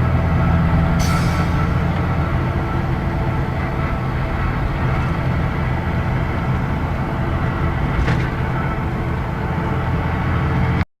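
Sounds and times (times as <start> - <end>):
bus diesel engine drone: 0.0 - 10.9.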